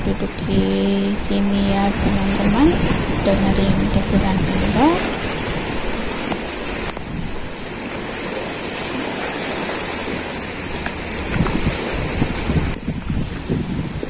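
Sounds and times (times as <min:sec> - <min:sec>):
waves washing against shore: 0:00.0 - 0:14.0
wind buffeting microphone: 0:00.0 - 0:14.0.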